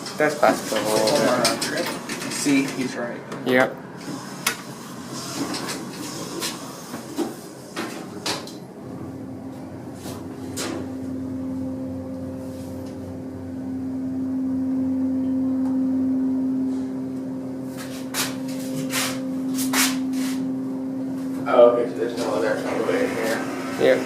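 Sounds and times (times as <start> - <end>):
hydraulic hum: 0.0 - 24.0.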